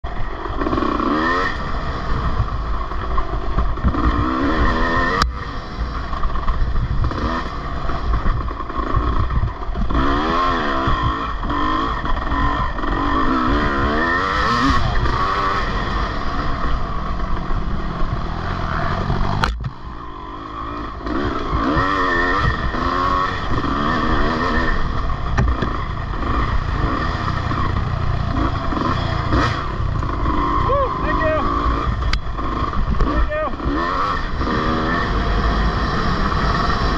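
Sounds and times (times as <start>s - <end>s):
dirt bike engine revving: 0.1s - 36.9s.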